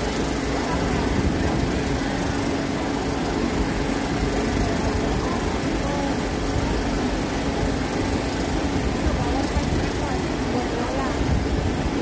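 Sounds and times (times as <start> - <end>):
low engine-like hum: 0.0 - 12.0
faint distant voices: 0.1 - 12.0.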